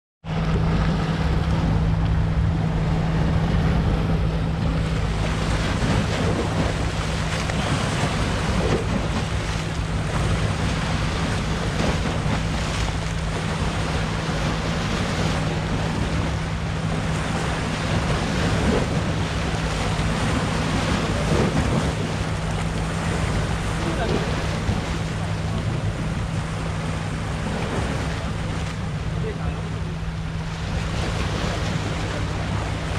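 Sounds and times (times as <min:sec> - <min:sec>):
low motor hum: 0:00.2 - 0:32.9
sea surf washing: 0:00.3 - 0:32.9
wind buffeting microphone: 0:00.3 - 0:32.9.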